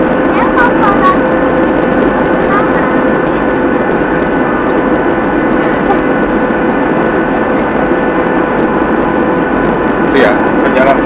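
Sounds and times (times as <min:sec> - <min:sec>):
airflow and jet engines in cabin: 0:00.0 - 0:11.0
steady whine: 0:00.0 - 0:11.0.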